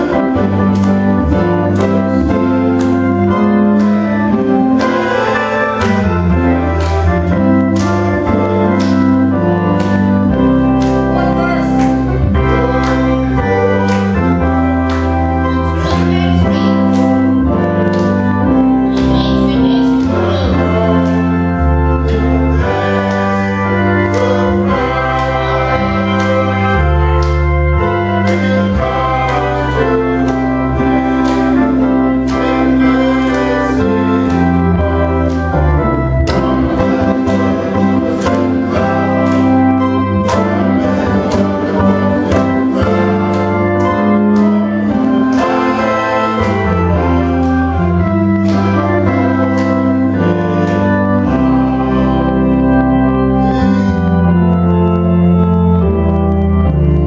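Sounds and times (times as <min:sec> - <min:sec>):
voices singing: 0:00.0 - 0:54.2
church organ playing a hymn: 0:00.0 - 0:57.0.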